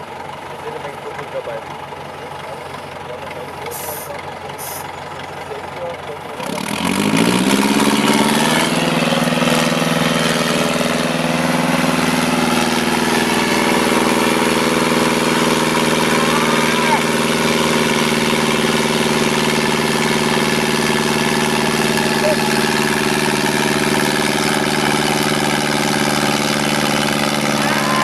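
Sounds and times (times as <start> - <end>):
truck diesel engine revving: 0.0 - 28.0.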